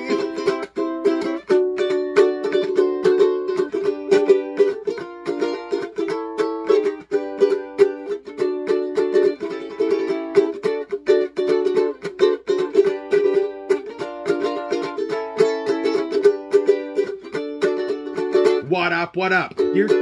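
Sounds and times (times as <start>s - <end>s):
ukulele strumming: 0.0s - 20.0s.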